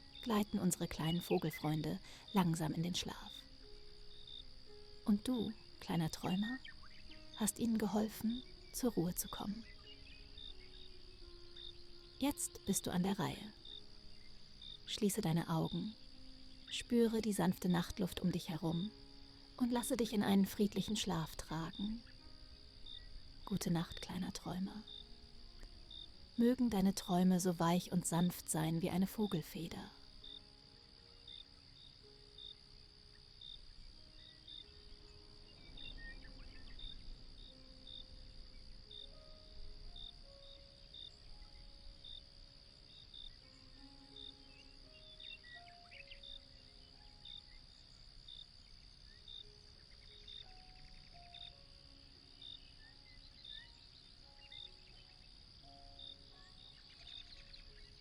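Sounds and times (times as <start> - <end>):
crickets chirping: 0.0 - 58.0
insect trill: 0.0 - 58.0
soft slow melody: 0.0 - 58.0
soft slow music: 0.0 - 58.0.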